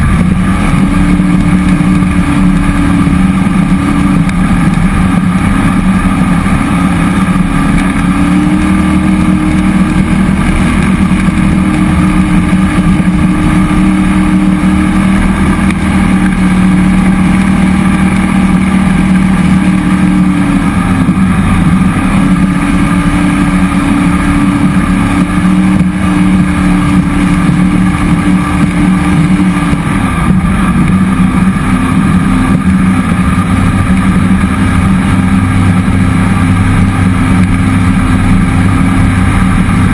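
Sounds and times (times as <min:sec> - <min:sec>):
boat engine cruising: 0:00.0 - 0:39.9.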